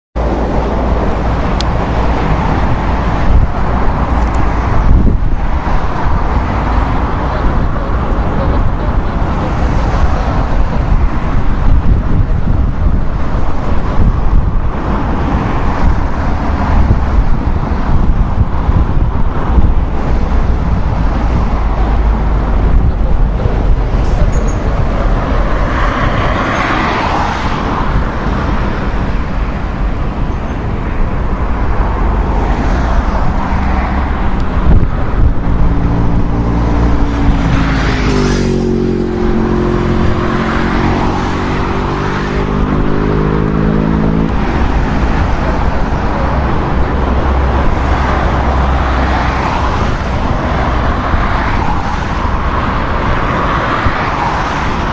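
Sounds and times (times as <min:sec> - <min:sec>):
wind rumble on microphone: 0:00.2 - 0:54.9.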